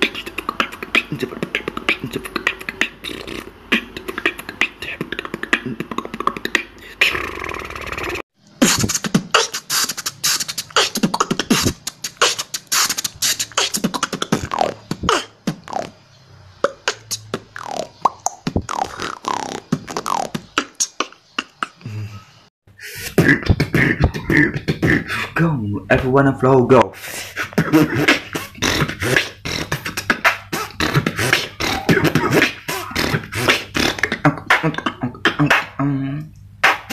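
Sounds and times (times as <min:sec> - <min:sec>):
person beatboxing: 0:00.0 - 0:16.0, 0:16.6 - 0:22.1, 0:22.8 - 0:26.1, 0:26.8 - 0:36.9
falling pitched vocal slides: 0:00.0 - 0:25.6, 0:26.9 - 0:36.9.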